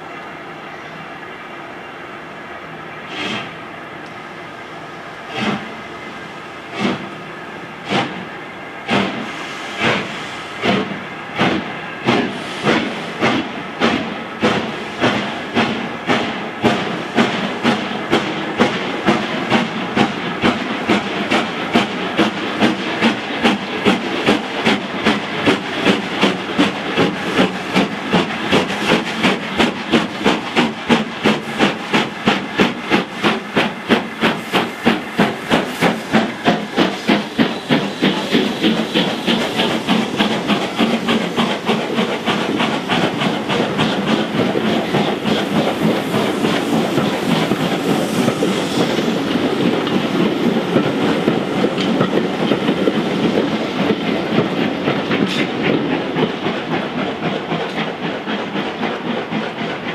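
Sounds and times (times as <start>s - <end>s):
steam locomotive exhaust beat: 2.9s - 59.9s.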